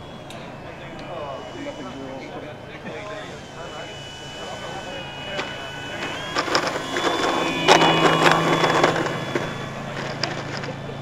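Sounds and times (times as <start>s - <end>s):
model plane engine buzzing: 0.0s - 11.0s.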